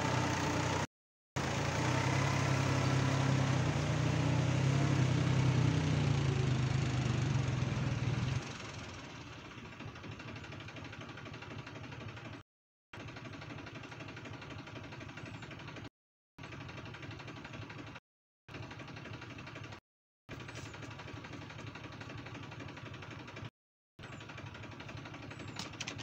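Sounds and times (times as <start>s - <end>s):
tractor diesel engine under load: 0.0s - 12.4s, 13.0s - 26.0s.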